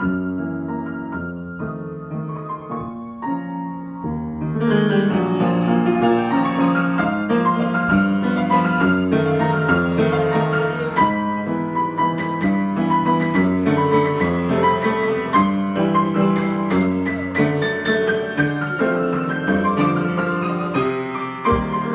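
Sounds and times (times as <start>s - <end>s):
solo piano improvisation: 0.0s - 21.9s.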